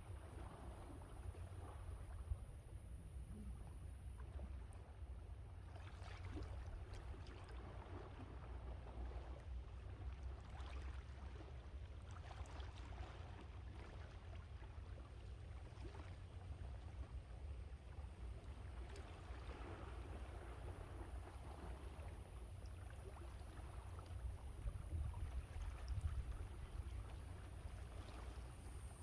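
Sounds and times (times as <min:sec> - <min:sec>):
wind rumble on microphone: 0:00.0 - 0:11.7, 0:15.8 - 0:29.0.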